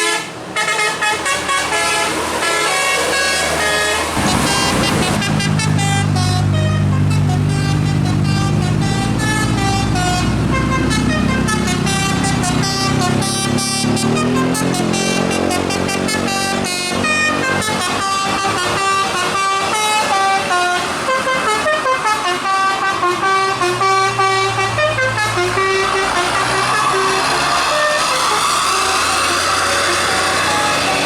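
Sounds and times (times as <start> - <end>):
bus engine running: 0.0 - 31.0
musical bus air horn: 0.0 - 31.0.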